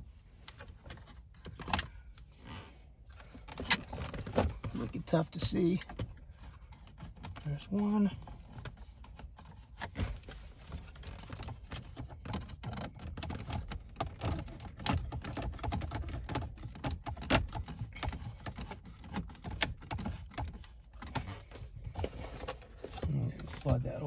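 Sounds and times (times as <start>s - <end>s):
clicks and scrapes of plastic parts: 0.4s - 24.0s.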